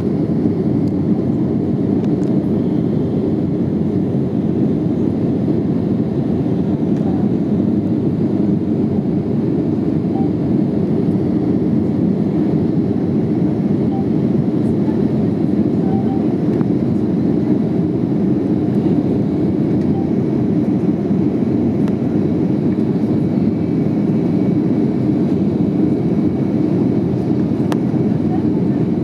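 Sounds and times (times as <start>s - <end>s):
airliner cabin engine rumble: 0.0s - 29.0s.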